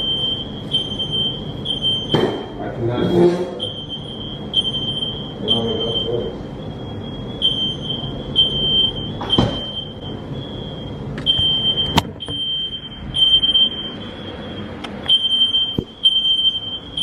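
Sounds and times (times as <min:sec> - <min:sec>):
smoke alarm beeping: 0:00.0 - 0:02.4, 0:03.6 - 0:17.0.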